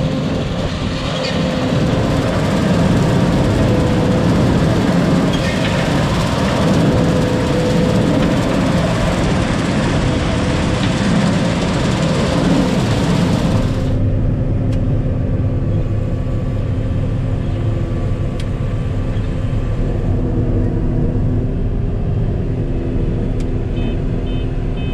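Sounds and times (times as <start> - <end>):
diesel engine running: 0.0 - 24.9
rushing machinery noise: 0.0 - 24.9.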